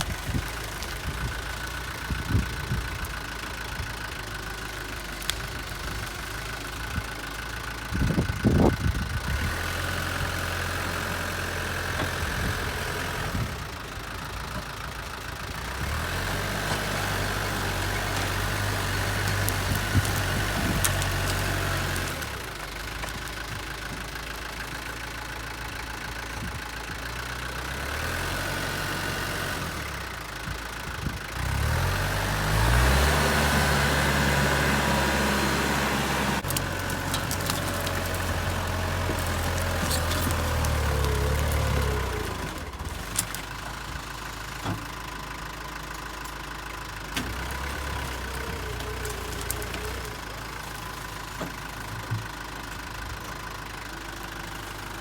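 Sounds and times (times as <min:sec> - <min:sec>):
excavator engine working: 0:00.0 - 0:55.0.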